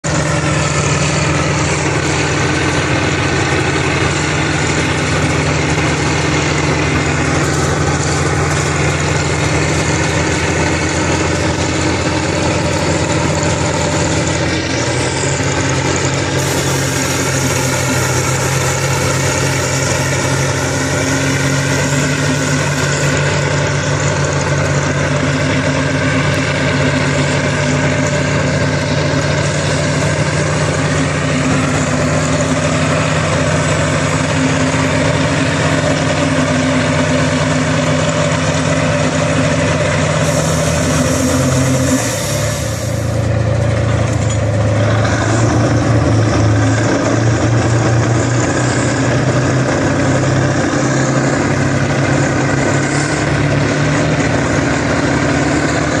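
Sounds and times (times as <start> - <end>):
tractor diesel engines droning: 0.0 - 56.0.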